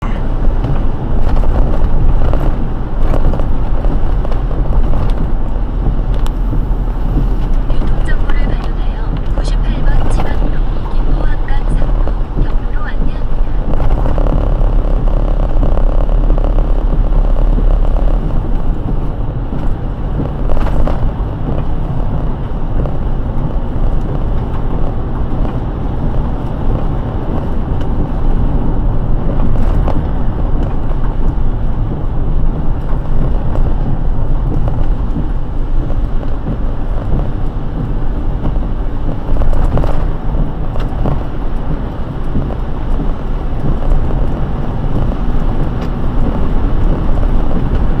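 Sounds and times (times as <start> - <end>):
car tyres on wet road: 0.0 - 48.0
heavy rain: 0.0 - 48.0.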